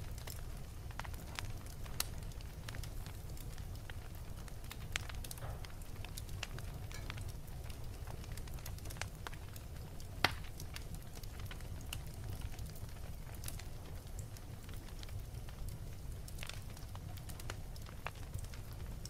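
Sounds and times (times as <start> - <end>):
fire popping: 0.0 - 19.0
log fire crackling: 0.0 - 19.0.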